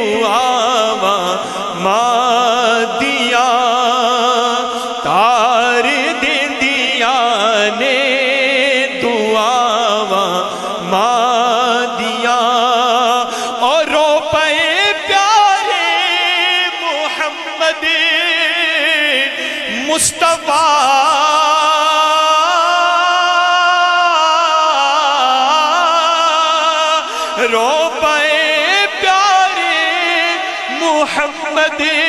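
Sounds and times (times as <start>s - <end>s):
man singing through a microphone: 0.0s - 32.0s.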